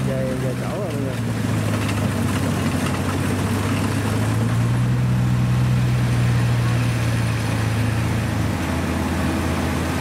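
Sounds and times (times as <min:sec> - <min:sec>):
combine harvester diesel engine: 0:00.0 - 0:10.0.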